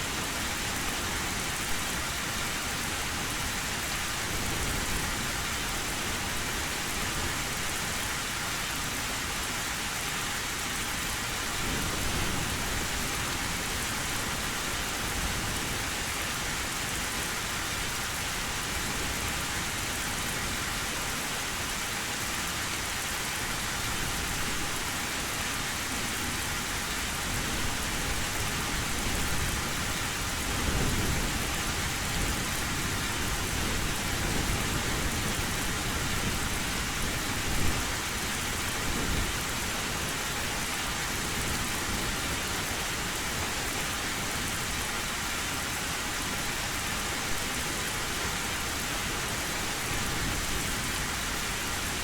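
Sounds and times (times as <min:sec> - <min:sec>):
heavy rain on a tin roof: 0:00.0 - 0:52.0.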